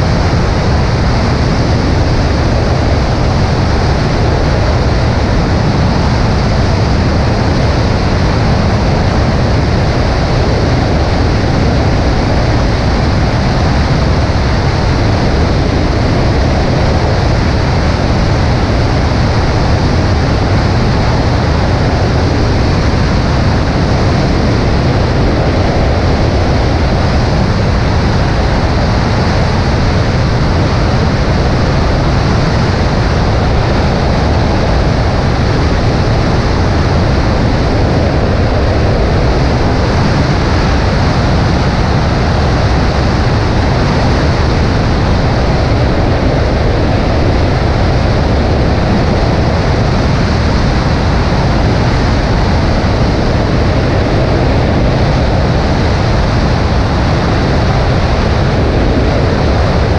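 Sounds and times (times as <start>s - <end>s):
airplane engine and airflow: 0.0s - 59.9s.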